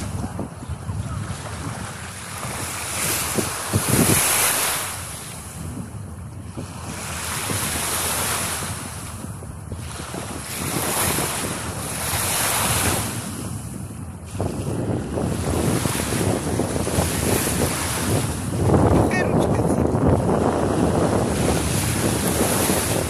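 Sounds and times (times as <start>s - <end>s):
small waves lapping at shoreline: 0.0s - 23.0s
wind rumbling on microphone: 0.0s - 23.0s.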